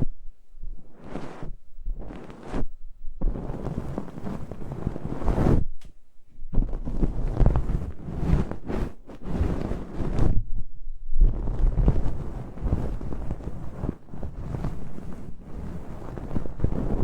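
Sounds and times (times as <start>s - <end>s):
scratchy rustling on microphone: 0.0s - 5.8s, 6.4s - 10.6s, 11.2s - 17.0s.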